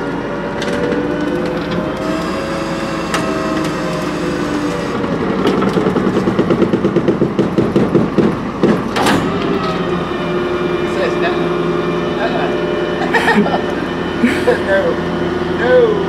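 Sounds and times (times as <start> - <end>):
garbage truck engine hum: 0.0 - 16.0.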